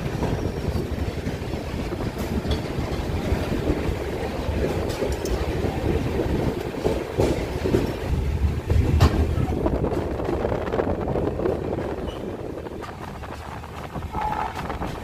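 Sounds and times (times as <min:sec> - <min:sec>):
train rumble from aboard: 0:00.0 - 0:15.0.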